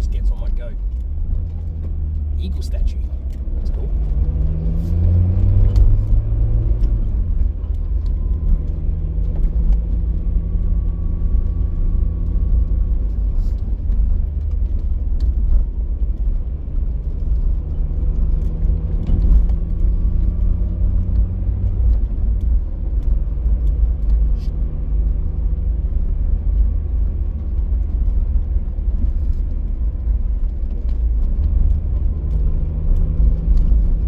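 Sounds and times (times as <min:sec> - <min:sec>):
car engine hum: 0:00.0 - 0:34.0
low road rumble: 0:00.0 - 0:34.0.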